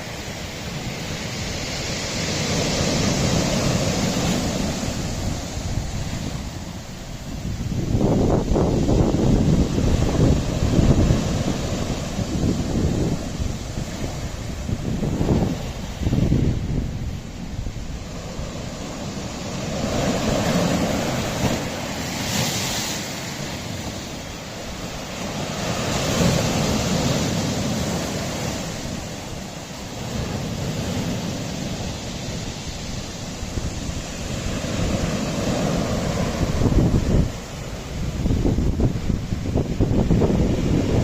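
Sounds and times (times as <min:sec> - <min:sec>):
waves breaking on rocky shore: 0:00.0 - 0:41.0
wind buffeting microphone: 0:00.0 - 0:41.0.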